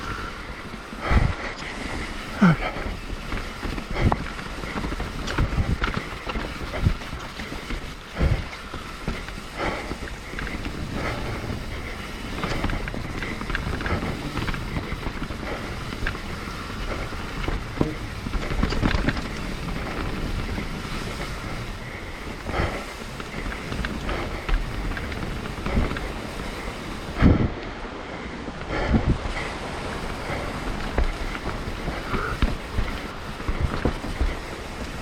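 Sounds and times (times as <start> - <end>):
bike knocking and rattling: 0.0 - 35.0
tyres rumbling on dirt: 0.0 - 35.0
wind buffeting microphone: 0.0 - 35.0.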